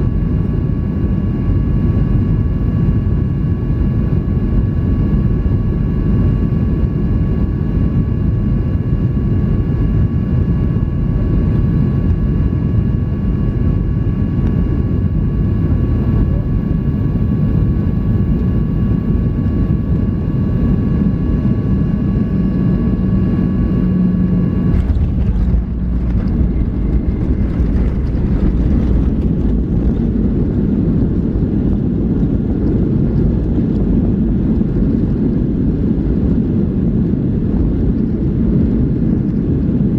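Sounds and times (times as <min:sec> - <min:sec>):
aircraft engine and airflow rumble: 0:00.0 - 0:39.9.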